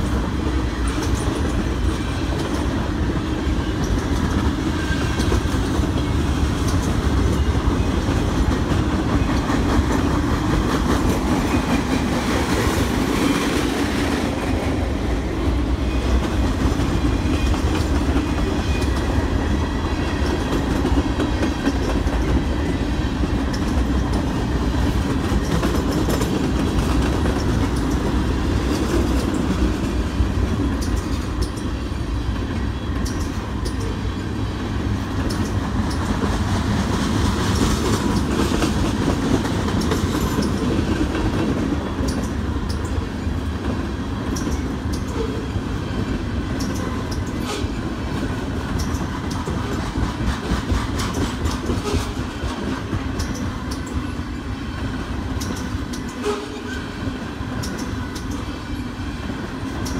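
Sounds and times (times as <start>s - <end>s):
wheels clacking on track: 0.0s - 58.6s
train wheels rumbling: 0.0s - 59.9s.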